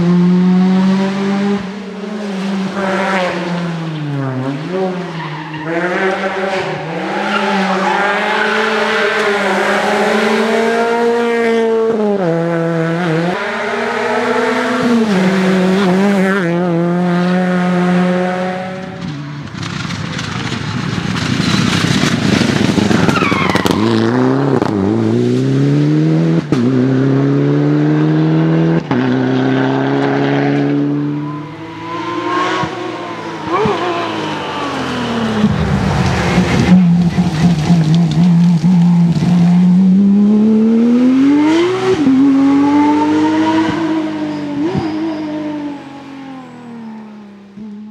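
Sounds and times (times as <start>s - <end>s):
rally cars racing past: 0.0s - 47.9s.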